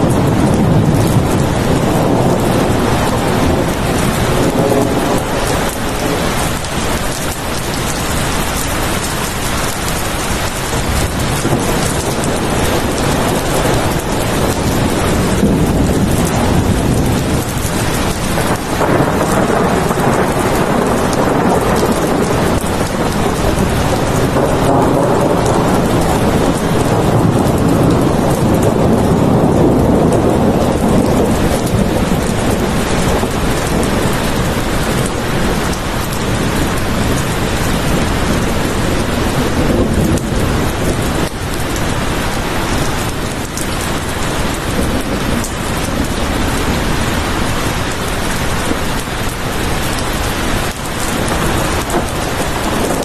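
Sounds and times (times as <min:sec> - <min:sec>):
heavy rain: 0:00.0 - 0:53.0
rolling thunder rumble: 0:00.0 - 0:53.0.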